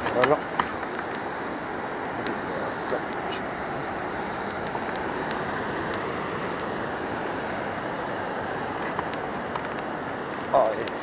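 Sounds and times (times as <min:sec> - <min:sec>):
sea surf rushing: 0:00.0 - 0:11.0.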